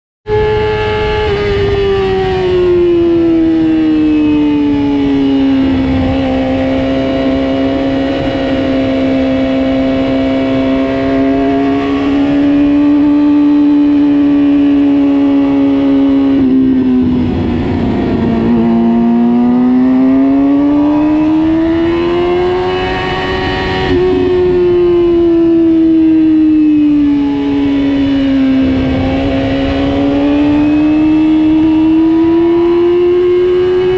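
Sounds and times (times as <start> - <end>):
motorcycle engine revving: 0.3 - 33.9.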